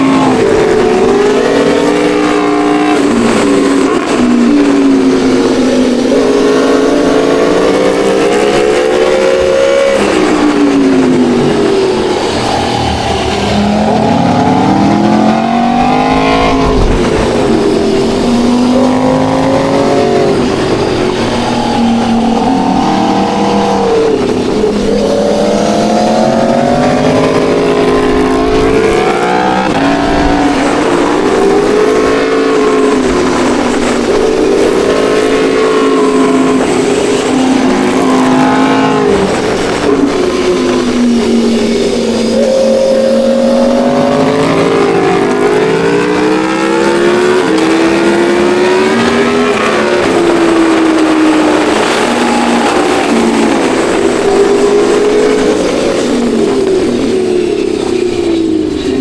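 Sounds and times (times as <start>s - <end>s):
motorcycle engines revving hard: 0.0s - 59.0s.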